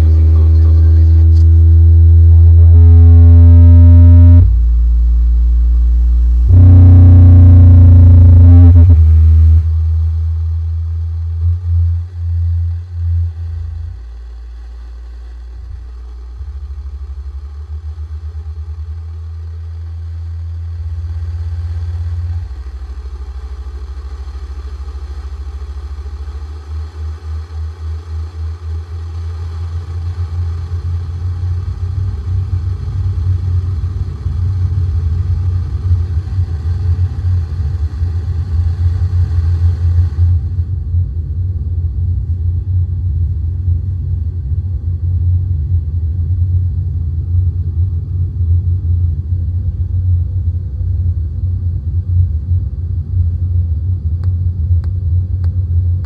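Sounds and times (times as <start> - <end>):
pulsing bass drone: 0.0 - 56.0.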